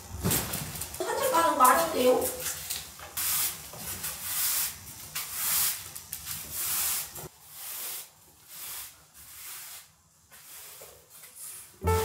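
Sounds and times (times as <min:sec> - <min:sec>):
broom sweeping tiled floor: 0:00.0 - 0:12.0.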